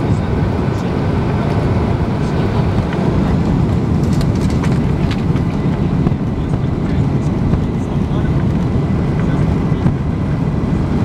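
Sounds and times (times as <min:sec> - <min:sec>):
airplane engine rumble in cabin: 0:00.0 - 0:11.0.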